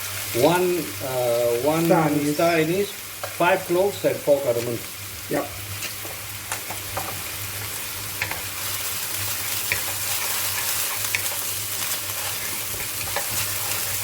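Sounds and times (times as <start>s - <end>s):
onion sizzling in oil: 0.0s - 14.0s.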